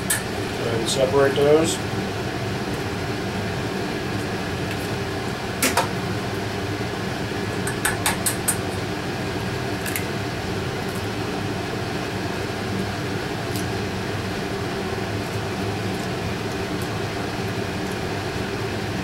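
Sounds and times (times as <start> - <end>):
mechanical fan hum: 0.0 - 19.0.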